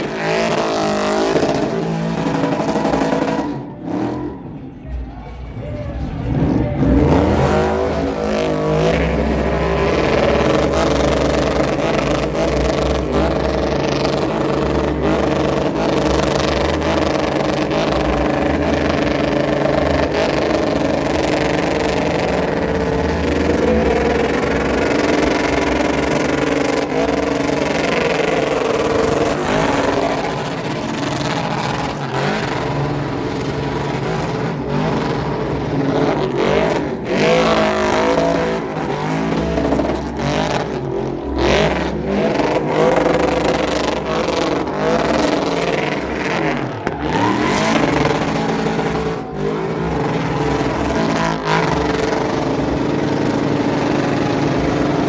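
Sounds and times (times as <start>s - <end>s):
car engine at high revs: 0.0s - 5.0s, 5.9s - 55.0s.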